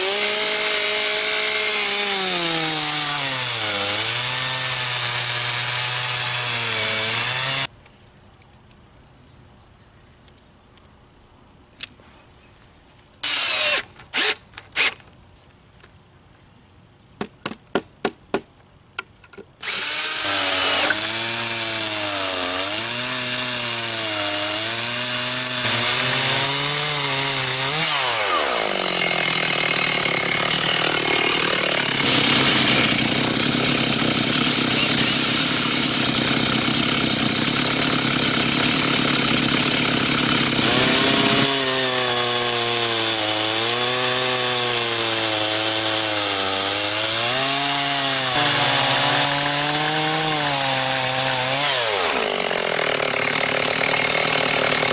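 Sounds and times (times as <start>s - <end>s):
chainsaw cutting a log: 0.0s - 7.7s, 13.2s - 15.0s, 19.6s - 54.9s.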